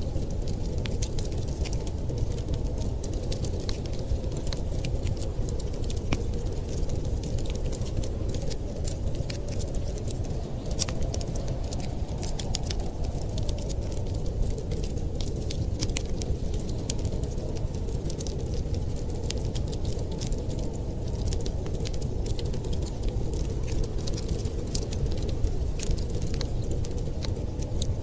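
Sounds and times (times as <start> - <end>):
low rumble of wind: 0.0 - 28.0
wood fire crackling and popping: 0.0 - 28.0.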